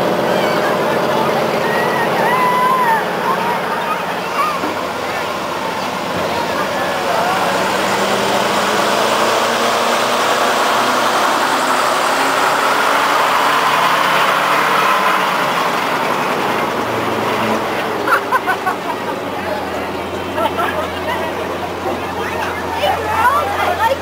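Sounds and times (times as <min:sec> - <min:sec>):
fire truck engines passing: 0:00.0 - 0:24.0.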